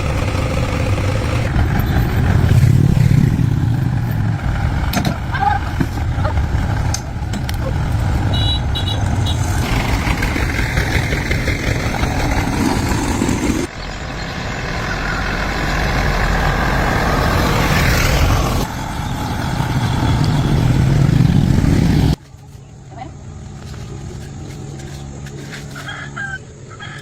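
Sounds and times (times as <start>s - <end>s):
engine running loudly: 0.0s - 22.2s.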